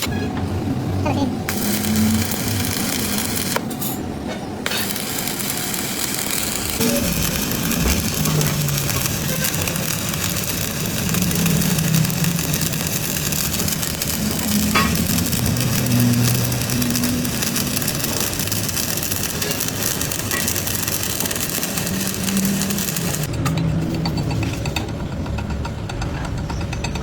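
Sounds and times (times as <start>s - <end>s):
crackling hissing workshop noise: 0.0s - 23.4s.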